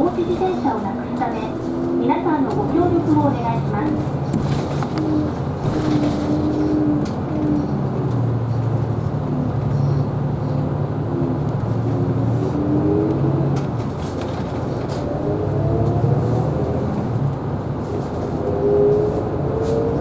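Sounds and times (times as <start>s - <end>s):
bus drivetrain hum: 0.0s - 20.0s
road noise: 0.0s - 20.0s.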